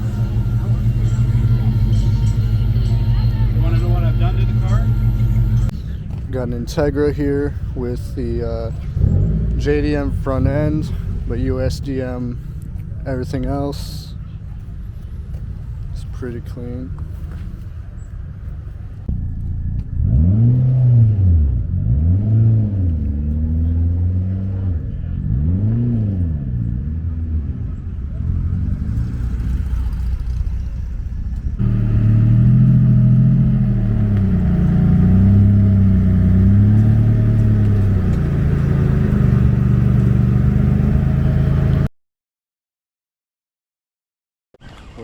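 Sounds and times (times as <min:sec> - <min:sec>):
car engine revving: 0:00.0 - 0:14.0, 0:19.1 - 0:41.9.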